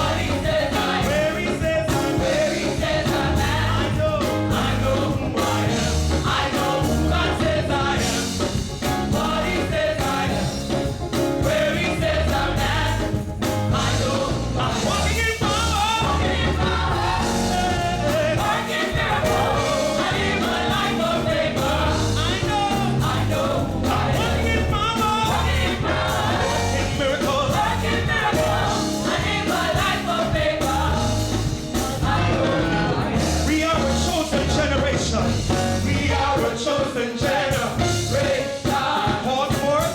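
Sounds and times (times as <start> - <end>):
gospel singing with band: 0.0 - 39.9.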